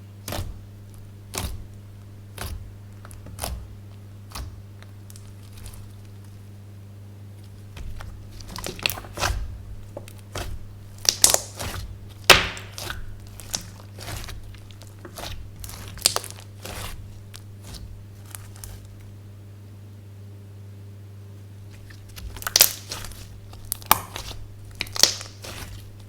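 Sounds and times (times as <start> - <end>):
slime crackling and popping: 0.3 - 6.4, 7.7 - 19.1, 21.7 - 26.0.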